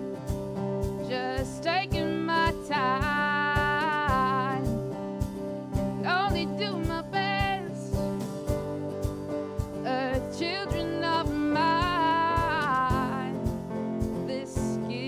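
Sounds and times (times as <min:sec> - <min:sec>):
country band playing live: 0:00.0 - 0:15.0.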